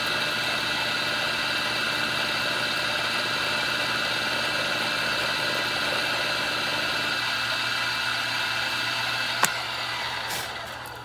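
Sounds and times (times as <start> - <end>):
milling machine cutting metal: 0.0 - 11.0.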